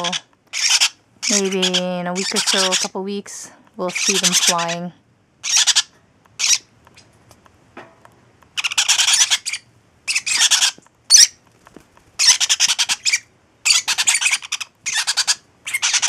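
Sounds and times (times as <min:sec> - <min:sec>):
parrot chicks squawking: 0:00.0 - 0:03.0, 0:03.8 - 0:07.1, 0:08.5 - 0:11.4, 0:12.2 - 0:16.0.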